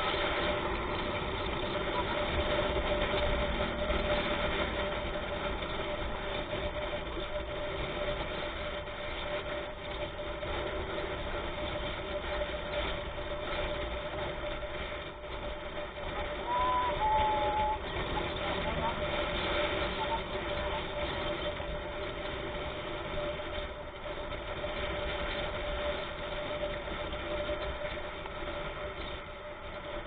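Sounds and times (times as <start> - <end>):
faint whine: 0.0 - 30.0
vehicle engine hum: 0.0 - 30.0
wind and road rush: 0.0 - 30.0.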